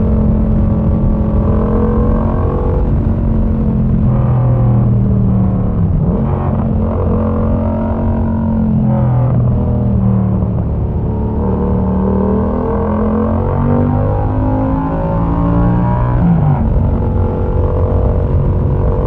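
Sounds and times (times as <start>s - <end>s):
motorcycle engine while riding: 0.0s - 19.0s.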